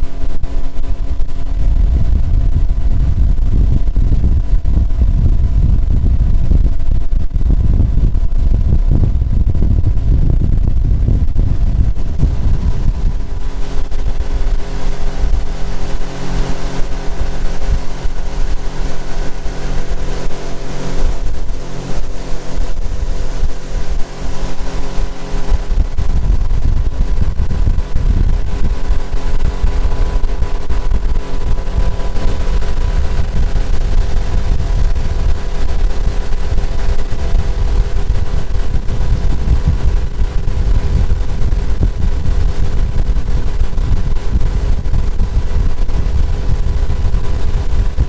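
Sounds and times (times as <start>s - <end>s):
outboard motor running: 0.0s - 48.0s
wind rumble on microphone: 0.0s - 48.0s.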